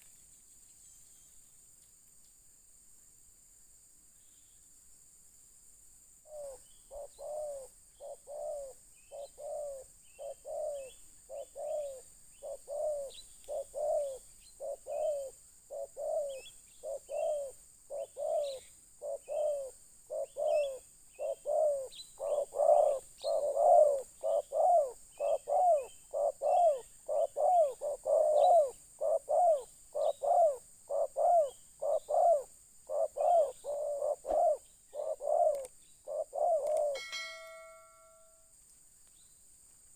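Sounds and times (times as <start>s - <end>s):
dove cooing: 6.3s - 38.3s
small birds chirping: 6.3s - 38.3s.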